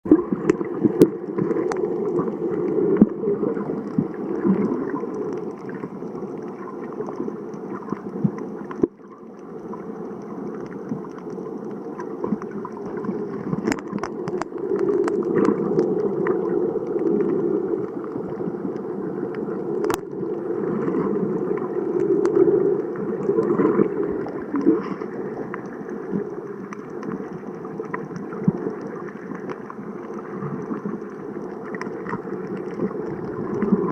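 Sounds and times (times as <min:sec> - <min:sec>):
muffled water gurgling: 0:00.0 - 0:33.9.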